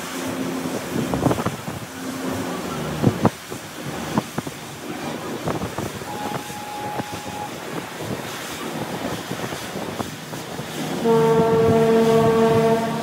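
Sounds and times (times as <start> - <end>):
ship's horn blast: 0.0 - 8.2, 9.8 - 13.0
boat wake rushing: 0.0 - 13.0
wind on microphone: 0.0 - 13.0.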